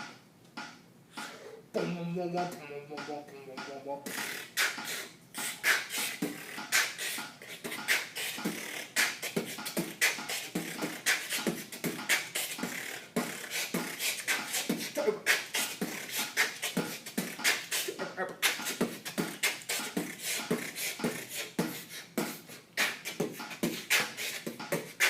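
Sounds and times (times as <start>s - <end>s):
person beatboxing: 1.1s - 25.0s.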